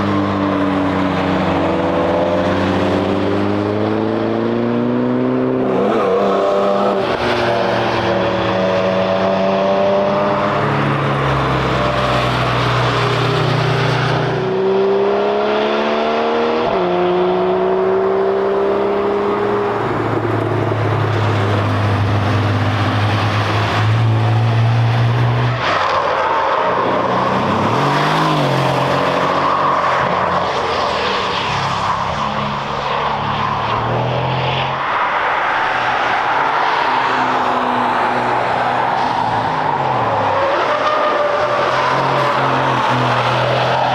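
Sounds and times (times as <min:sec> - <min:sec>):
race cars passing at speed: 0:00.0 - 0:43.9.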